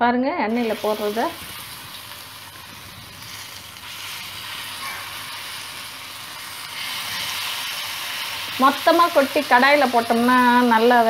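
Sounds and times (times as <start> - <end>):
food sizzling in hot oil: 0.4 - 11.0.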